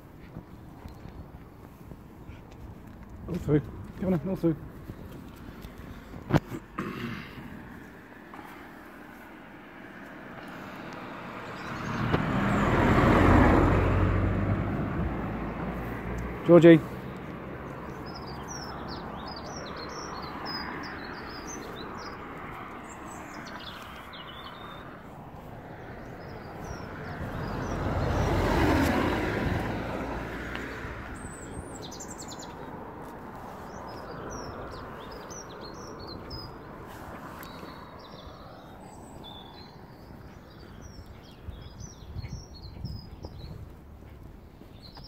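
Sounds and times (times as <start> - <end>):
small birds chirping: 0.0 - 14.0, 14.7 - 45.0
vehicle passing: 0.7 - 44.7.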